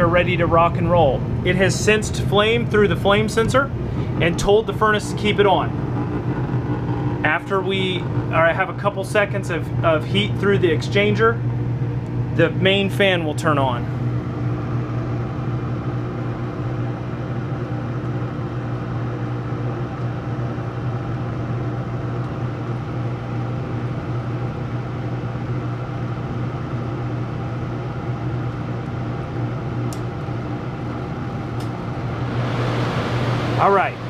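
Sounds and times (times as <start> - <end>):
furnace mechanical hum: 0.0 - 34.0.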